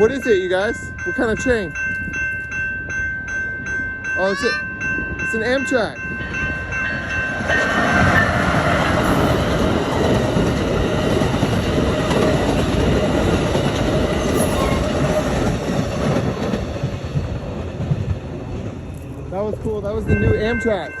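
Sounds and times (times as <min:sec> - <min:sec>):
train rumbling past: 0:02.5 - 0:21.0.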